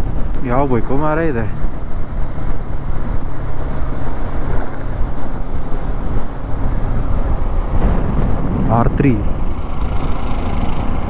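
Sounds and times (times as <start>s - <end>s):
motorcycle engine hum: 0.0s - 11.0s
wind rushing on microphone: 0.0s - 11.0s.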